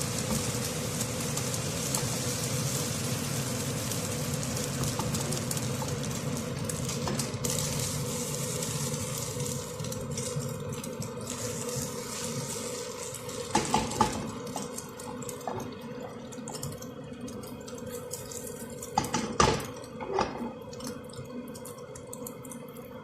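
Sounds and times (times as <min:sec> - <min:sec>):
omelet frying in hot oil: 0:00.0 - 0:23.0.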